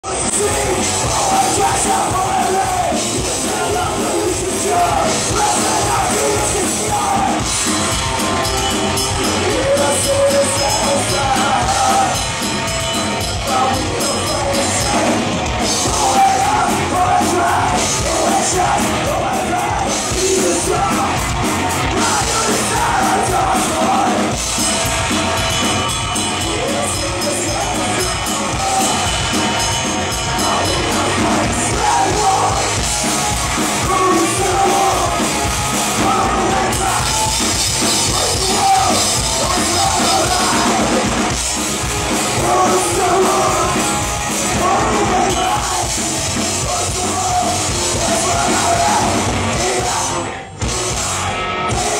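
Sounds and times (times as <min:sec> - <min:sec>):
singer yelling: 0:00.0 - 0:12.4, 0:13.4 - 0:24.5, 0:26.2 - 0:41.3, 0:42.0 - 0:51.9
drums: 0:00.0 - 0:51.9
electric guitar: 0:00.0 - 0:51.9.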